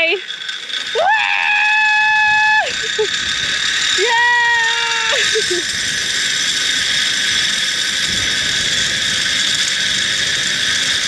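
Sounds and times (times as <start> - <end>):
zip-line pulleys whirring on cable: 0.0 - 11.0.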